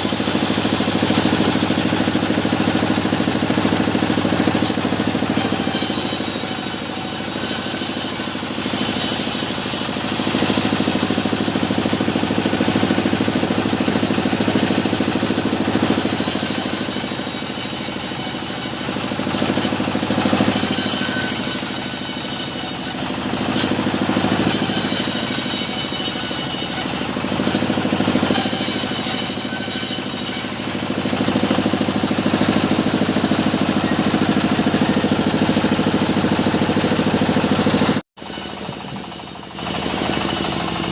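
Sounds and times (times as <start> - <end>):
saw blade hissing through wood: 0.0 - 40.9
sawmill drive humming: 0.0 - 40.9.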